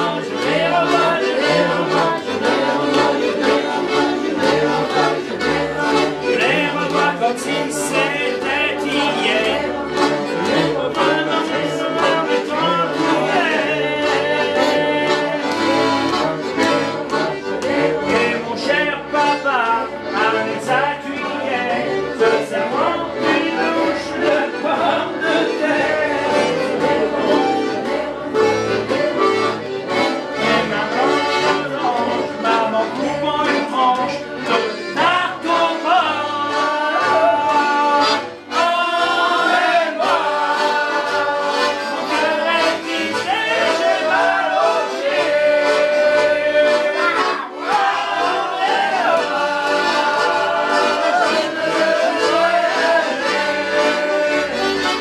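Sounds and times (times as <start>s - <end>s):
instrumental folk music: 0.0s - 55.0s.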